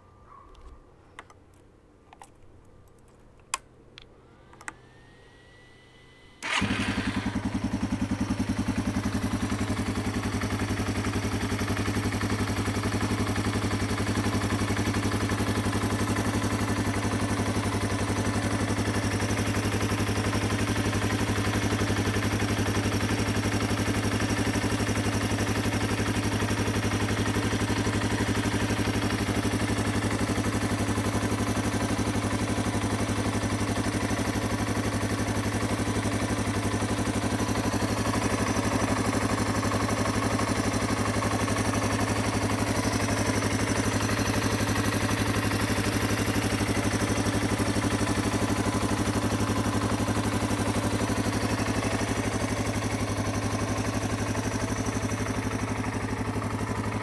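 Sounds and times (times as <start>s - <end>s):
motorcycle engine idling: 6.4s - 57.0s.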